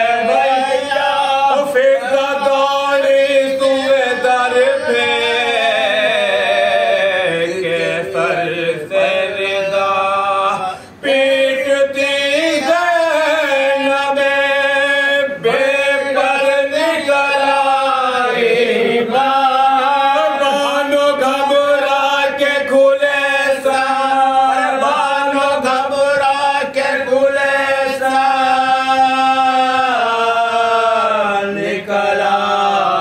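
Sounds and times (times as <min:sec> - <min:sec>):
men chanting together: 0:00.0 - 0:33.0.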